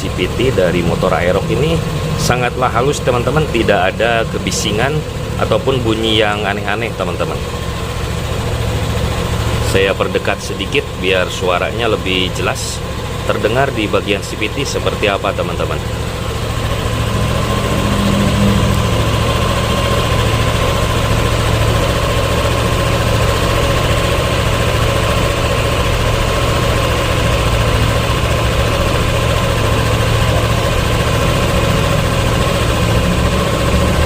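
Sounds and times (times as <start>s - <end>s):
scooter engine idling: 0.0s - 34.0s.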